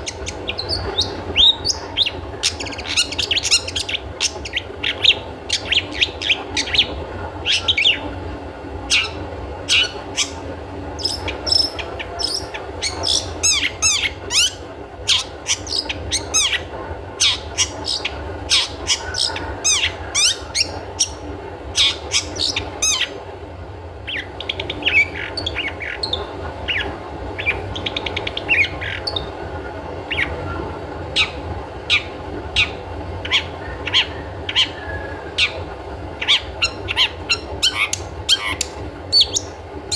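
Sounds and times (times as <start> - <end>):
shrike calling: 0.0 - 8.2, 8.8 - 23.2, 24.0 - 29.4, 30.1 - 39.9
steady low hum: 0.0 - 39.9.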